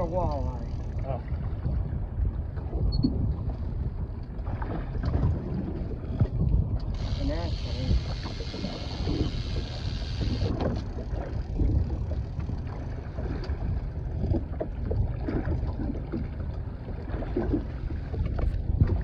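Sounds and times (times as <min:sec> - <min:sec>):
water lapping against boat hull: 0:00.0 - 0:19.0
wind buffeting microphone: 0:00.0 - 0:19.0.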